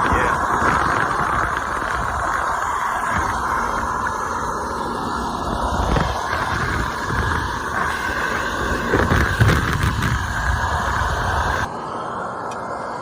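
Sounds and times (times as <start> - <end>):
wind buffeting microphone: 0.0 - 11.7
air rushing through duct: 0.0 - 13.0
blower running: 0.0 - 13.0.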